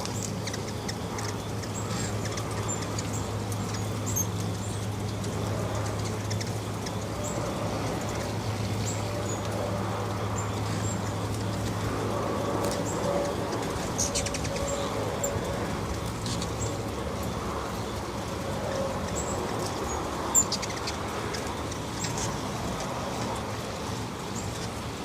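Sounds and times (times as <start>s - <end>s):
hummingbird chip notes: 0.0s - 22.8s.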